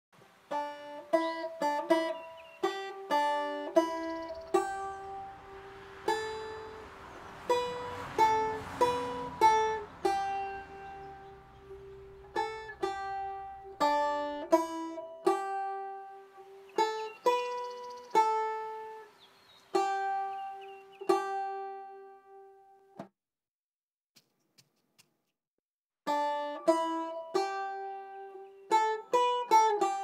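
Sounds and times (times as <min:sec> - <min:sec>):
banjo melody: 0:00.5 - 0:23.1, 0:26.1 - 0:30.0.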